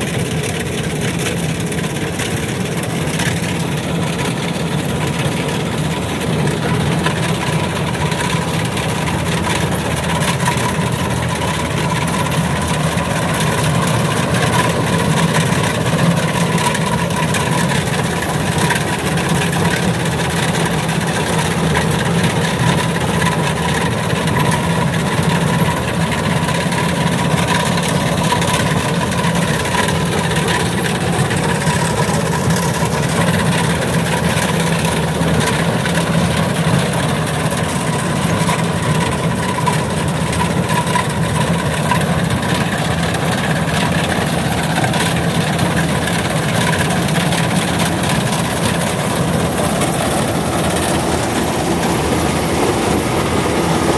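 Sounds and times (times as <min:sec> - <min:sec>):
combine harvester running: 0:00.0 - 0:53.9
thin steady whine: 0:01.6 - 0:53.9.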